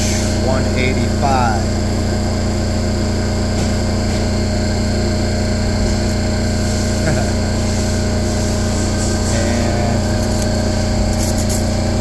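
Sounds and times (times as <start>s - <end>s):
machinery drone: 0.0s - 12.0s.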